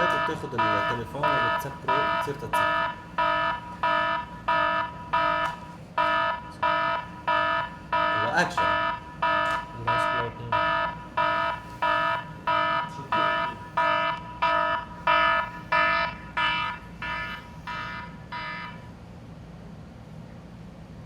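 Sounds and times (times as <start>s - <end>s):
phone alarm beeping: 0.0s - 18.9s.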